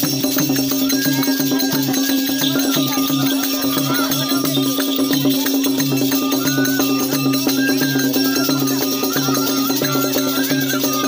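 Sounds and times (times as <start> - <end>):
costume bells jingling: 0.0 - 11.0
hand drum beat: 0.0 - 11.0
wind pipe melody over drone: 0.6 - 11.0.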